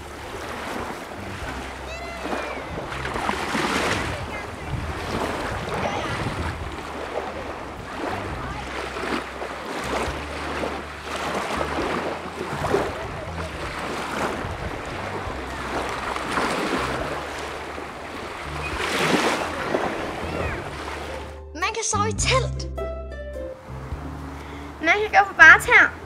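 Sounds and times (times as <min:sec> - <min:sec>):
wind buffeting the microphone: 0:00.0 - 0:21.1
small waves lapping: 0:00.0 - 0:21.4, 0:23.8 - 0:26.0.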